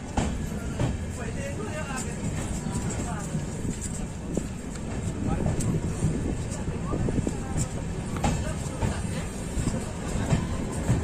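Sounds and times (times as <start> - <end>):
train coach rumble: 0.0 - 11.0
wheels clacking over rail joints: 0.0 - 11.0.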